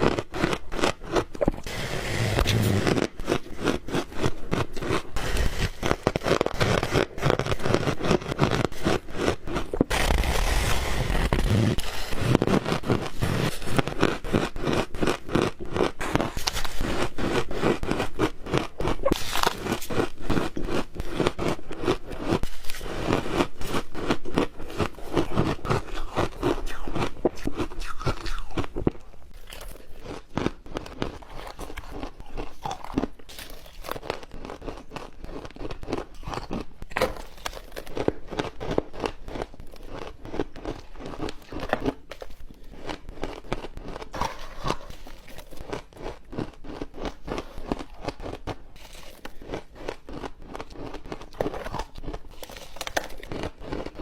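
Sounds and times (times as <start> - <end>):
ice cubes crunched between teeth: 0.0 - 54.0.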